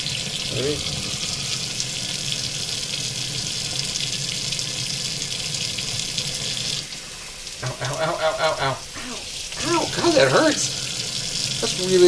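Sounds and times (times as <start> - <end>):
faucet water splashing on glass: 0.0 - 12.0.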